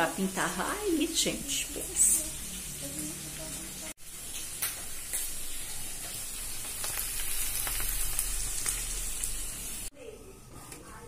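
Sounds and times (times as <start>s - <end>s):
meat sizzling in a pan: 0.0s - 9.9s.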